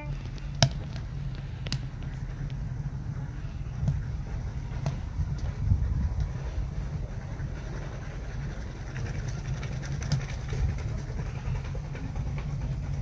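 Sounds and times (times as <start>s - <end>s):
wood fire rumbling: 0.0s - 13.0s.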